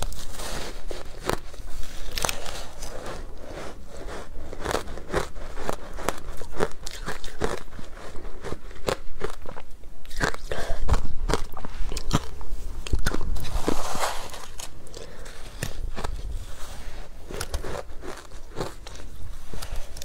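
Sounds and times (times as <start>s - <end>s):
ice crunching while chewed: 0.0s - 20.0s.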